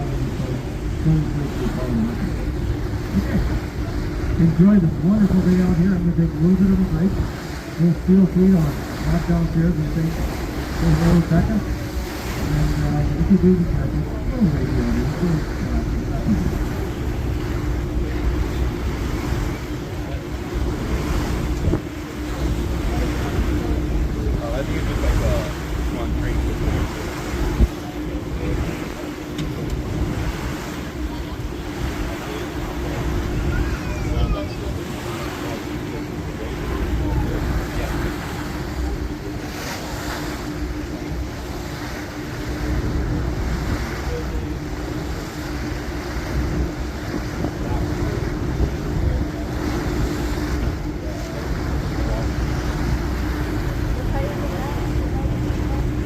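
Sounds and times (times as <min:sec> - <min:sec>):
boat engine humming: 0:00.0 - 0:56.0
water rushing past hull: 0:00.0 - 0:56.0
wind buffeting microphone: 0:00.0 - 0:56.0.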